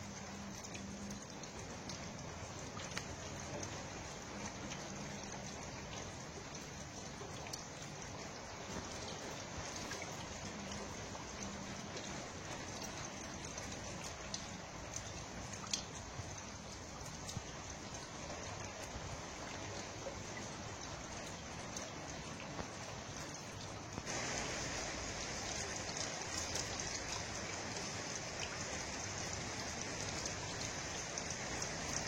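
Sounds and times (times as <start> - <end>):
dripping ticks: 0.0 - 32.0
water noise: 0.0 - 32.0.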